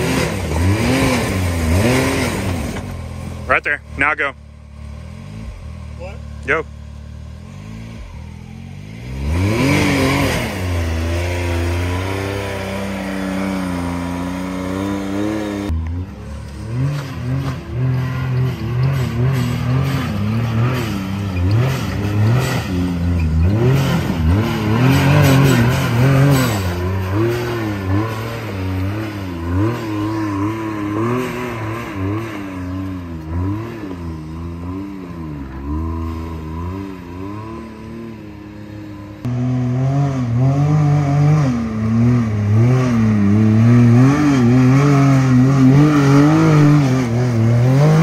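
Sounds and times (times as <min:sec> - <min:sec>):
engine revving hard: 0:00.0 - 0:06.6, 0:07.3 - 0:38.4, 0:39.2 - 0:48.0.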